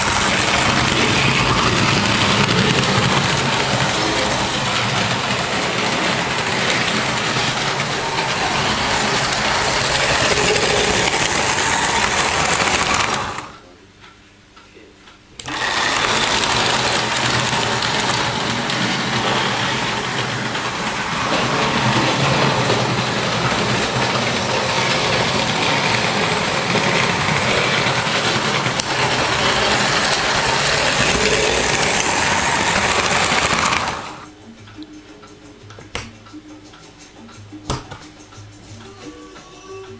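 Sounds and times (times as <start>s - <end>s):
model train motor whir: 0.0s - 13.6s, 15.4s - 34.3s.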